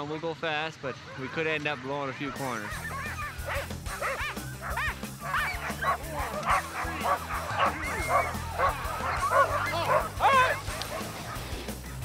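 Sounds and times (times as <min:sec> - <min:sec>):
sled dogs barking and yipping: 0:00.2 - 0:12.0.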